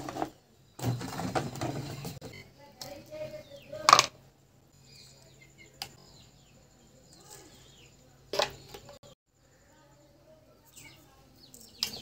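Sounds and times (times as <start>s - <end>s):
birds chirping faintly: 0.1s - 12.0s.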